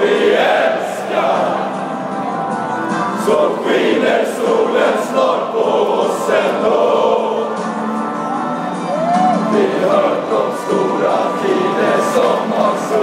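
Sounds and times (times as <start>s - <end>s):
crowd singing a chant: 0.0s - 8.6s, 9.3s - 13.0s.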